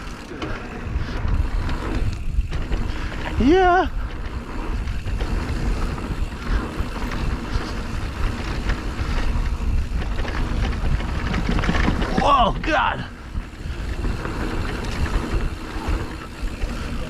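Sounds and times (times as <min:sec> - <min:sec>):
bike clicks and rattles: 0:00.0 - 0:17.0
wind rush on microphone: 0:00.0 - 0:17.0.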